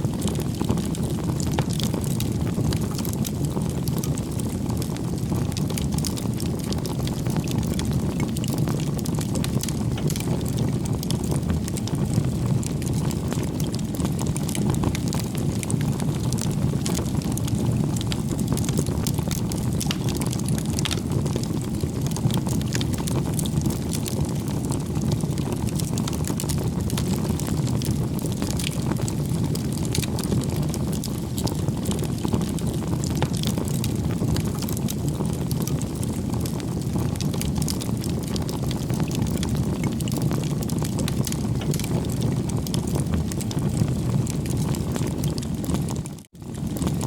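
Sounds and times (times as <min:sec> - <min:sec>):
low rumble of flames: 0:00.0 - 0:47.0
wood crackling and popping: 0:00.0 - 0:47.0.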